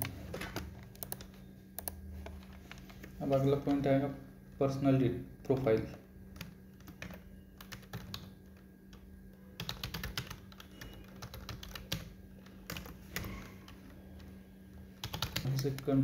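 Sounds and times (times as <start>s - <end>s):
computer keyboard clicking: 0.0s - 3.0s, 5.5s - 14.3s, 15.0s - 16.0s.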